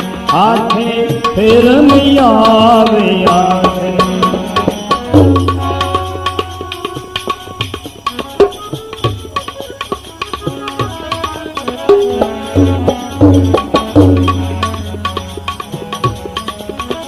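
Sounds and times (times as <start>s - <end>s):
hand drums playing: 0.0s - 17.0s
held melodic notes: 0.0s - 17.0s.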